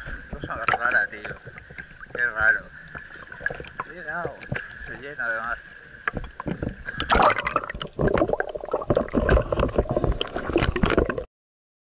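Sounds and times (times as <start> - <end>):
water sloshing and gurgling: 0.0 - 11.3
water splashes and knocks: 0.0 - 11.3.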